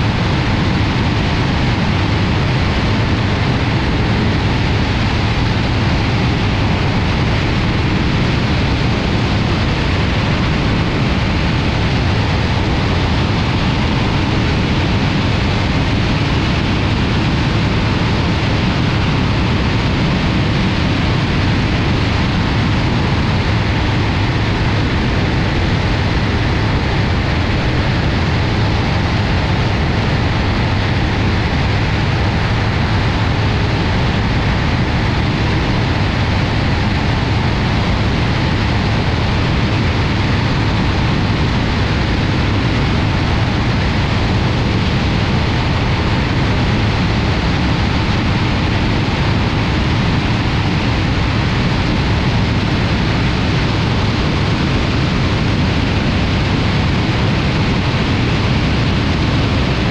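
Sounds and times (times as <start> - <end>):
light aircraft engine and propeller: 0.0 - 59.9
wind rushing over microphone: 0.0 - 59.9.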